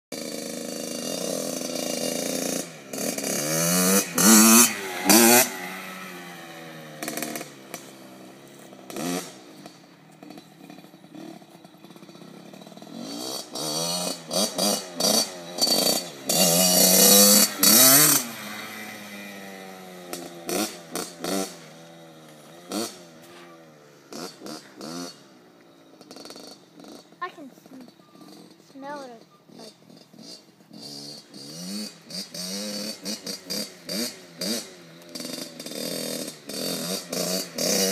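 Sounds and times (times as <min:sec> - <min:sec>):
dirt bike engine revving: 0:00.1 - 0:37.9.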